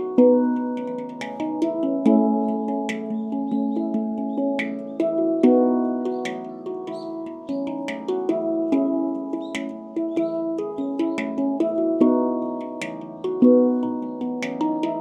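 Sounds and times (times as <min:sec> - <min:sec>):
handpan melody: 0:00.0 - 0:15.0.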